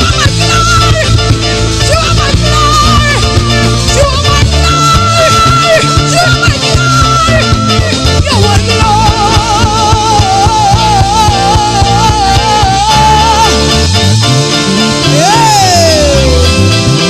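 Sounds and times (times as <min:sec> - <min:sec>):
bass: 0:00.0 - 0:17.0
drums: 0:00.0 - 0:17.0
lead melody with vibrato: 0:00.0 - 0:17.0.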